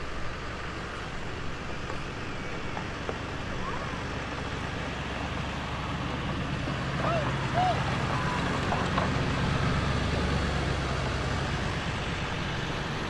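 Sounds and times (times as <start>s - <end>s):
low rumbling noise with hiss: 0.0s - 13.0s.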